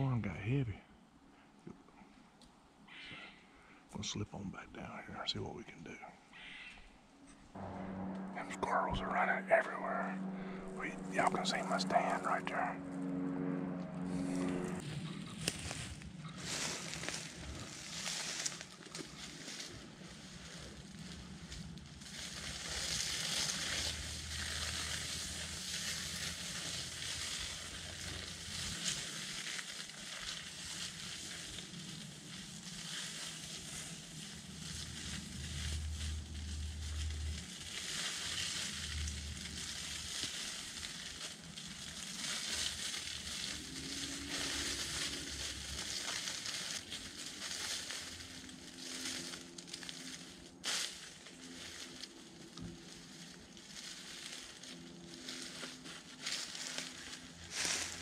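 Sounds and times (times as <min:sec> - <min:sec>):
low rumble: 0:07.4 - 0:58.0
dry leaves crackling and rustling: 0:07.6 - 0:58.0.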